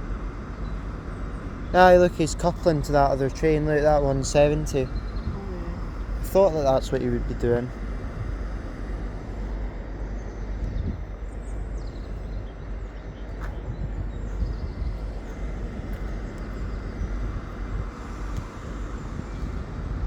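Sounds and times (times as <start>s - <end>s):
diesel trains idling: 0.0s - 20.0s.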